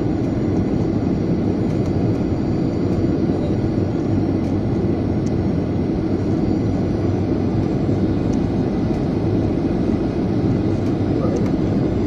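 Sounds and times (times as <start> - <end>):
airliner cabin engine hum: 0.0 - 12.0.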